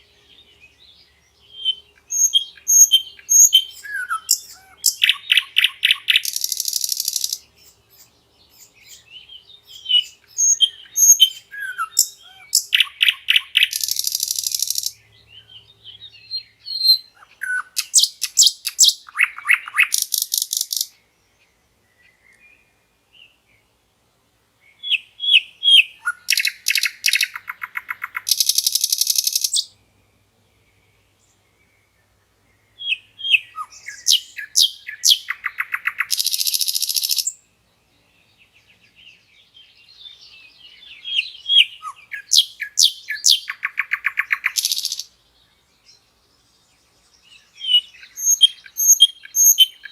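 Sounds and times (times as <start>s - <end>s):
nightingale singing: 0.0s - 23.8s, 24.6s - 49.9s.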